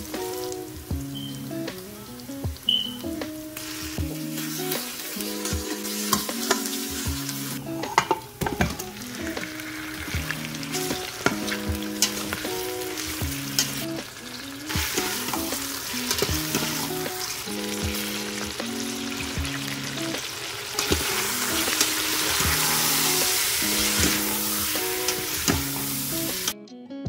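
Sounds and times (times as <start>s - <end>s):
food sizzling in hot oil: 0.0s - 26.6s
soft background music: 0.0s - 27.0s.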